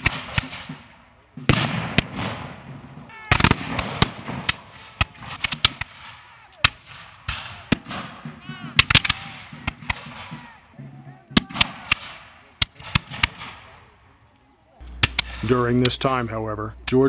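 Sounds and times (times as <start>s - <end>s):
muskets firing: 0.0s - 14.0s, 14.8s - 16.0s.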